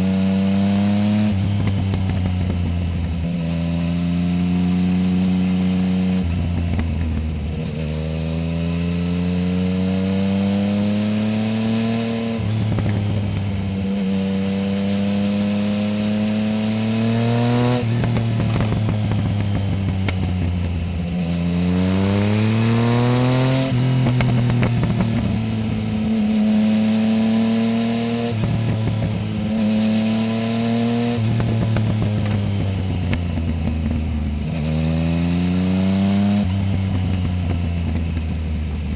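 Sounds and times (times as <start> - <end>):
motorcycle engine accelerating through gears: 0.0 - 38.9.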